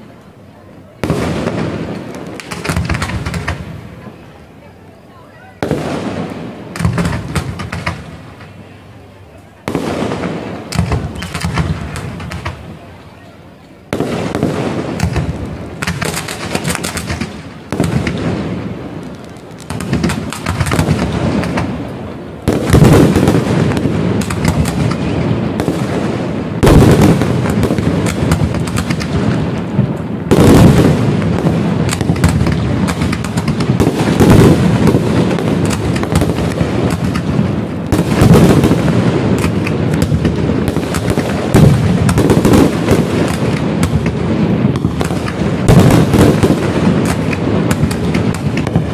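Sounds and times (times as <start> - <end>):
fireworks bursting and crackling: 0.0 - 48.9
fireworks booms: 0.9 - 4.3, 5.4 - 8.8, 9.6 - 13.0, 13.9 - 48.9.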